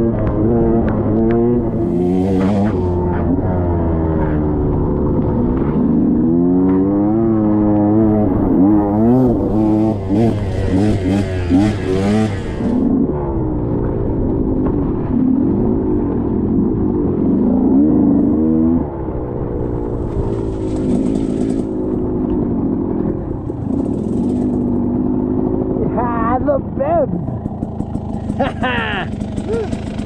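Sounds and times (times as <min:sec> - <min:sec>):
dirt bike two-stroke engine: 0:00.0 - 0:30.0.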